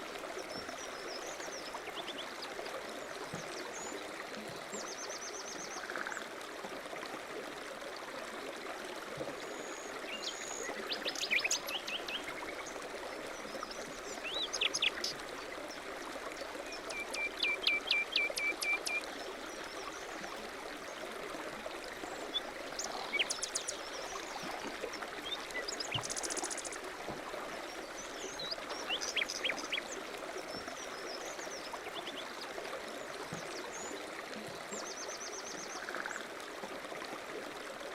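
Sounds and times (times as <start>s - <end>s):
water rushing in a stream: 0.0s - 37.9s.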